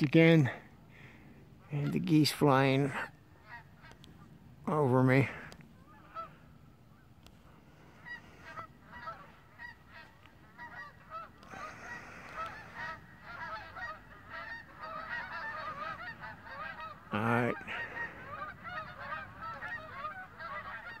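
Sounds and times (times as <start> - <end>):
geese honking: 0.4 - 21.0.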